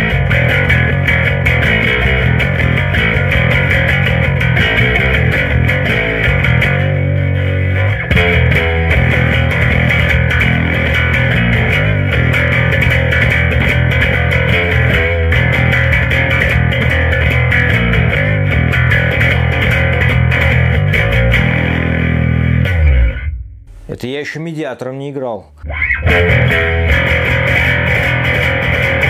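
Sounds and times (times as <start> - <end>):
overdriven electric bass notes: 0.0 - 24.5, 25.5 - 29.0.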